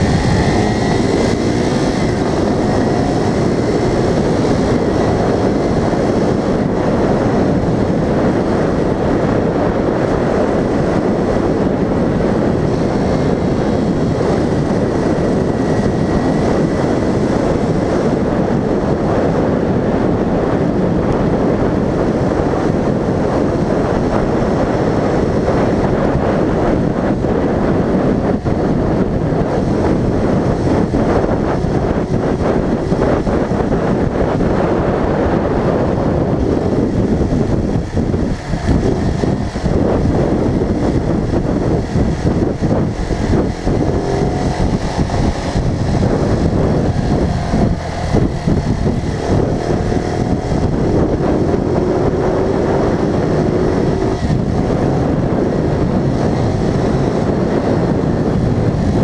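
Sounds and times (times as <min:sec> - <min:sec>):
vehicle engine and road noise: 0:00.0 - 0:59.0
wind on microphone: 0:00.0 - 0:59.0.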